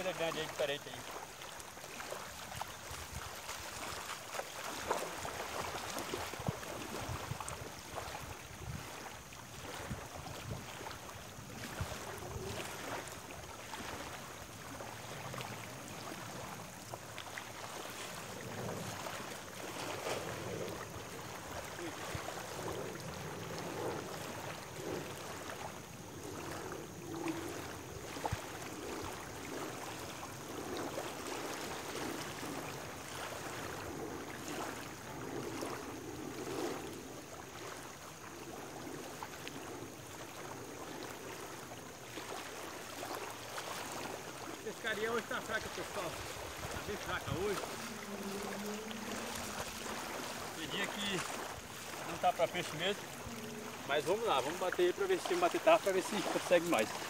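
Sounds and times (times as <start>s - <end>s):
small waves lapping at shore: 0.0s - 57.0s.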